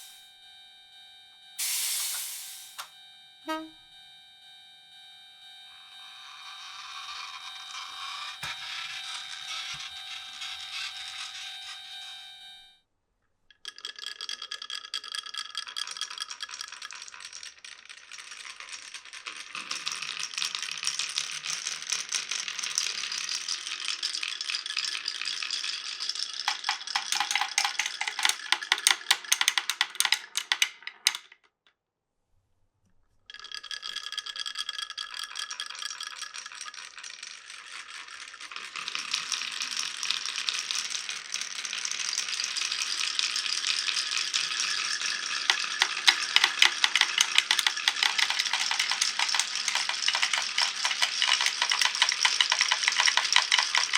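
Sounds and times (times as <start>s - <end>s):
marbles clattering down wooden run: 6.4s - 12.0s, 13.5s - 31.4s, 33.3s - 53.9s.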